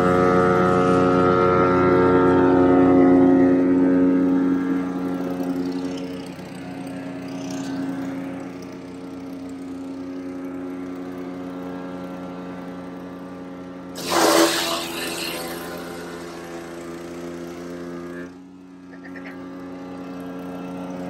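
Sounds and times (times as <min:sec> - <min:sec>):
wood chipper running: 0:00.0 - 0:21.0.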